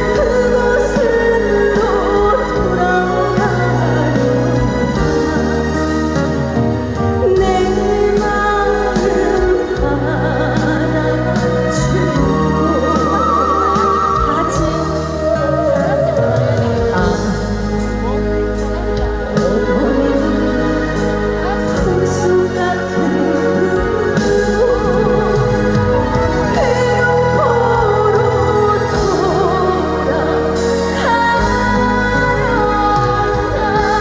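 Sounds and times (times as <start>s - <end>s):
instrumental backing: 0.0s - 34.0s
steady bass notes: 0.0s - 34.0s
woman singing with vibrato: 0.0s - 34.0s.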